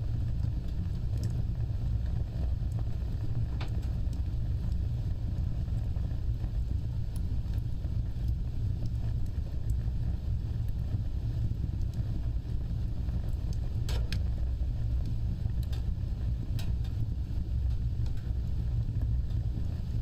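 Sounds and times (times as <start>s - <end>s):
fire crackling and popping: 0.0s - 20.0s
roar of flames: 0.0s - 20.0s.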